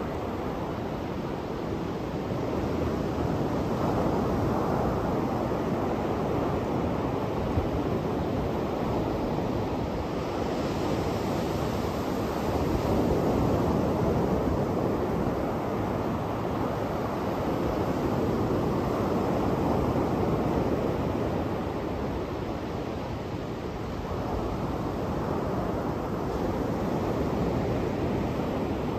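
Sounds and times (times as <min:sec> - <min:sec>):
waves washing up a beach: 0:00.0 - 0:28.9.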